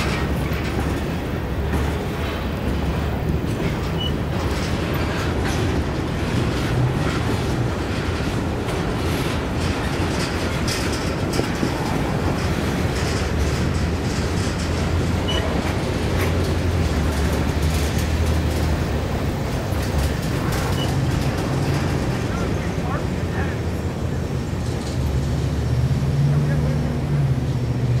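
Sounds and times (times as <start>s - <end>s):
clicks and clanks of train cars: 0.0s - 28.0s
train wheels rumbling on rail: 0.0s - 28.0s.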